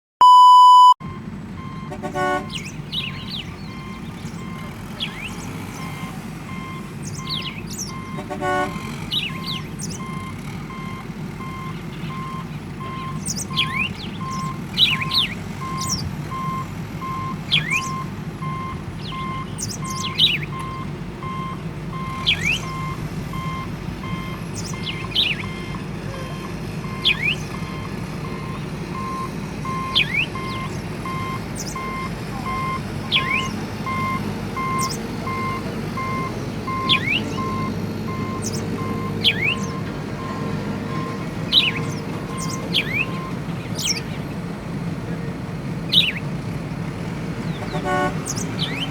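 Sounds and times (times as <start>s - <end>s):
reversing alarm beeping: 0.2s - 44.0s
birds chirping: 0.2s - 48.9s
low engine drone: 0.2s - 48.9s.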